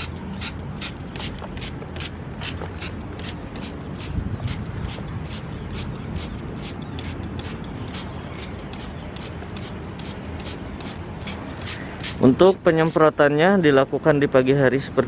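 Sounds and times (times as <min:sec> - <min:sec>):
spray bottle hissing sprays: 0:00.0 - 0:12.2.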